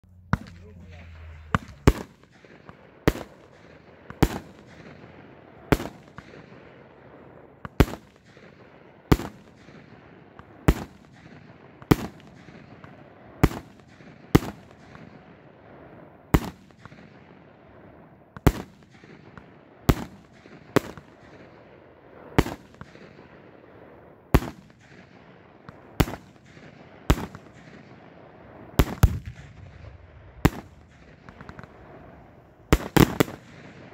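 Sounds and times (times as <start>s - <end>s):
firework bangs with echo: 0.1s - 6.9s, 7.5s - 33.9s.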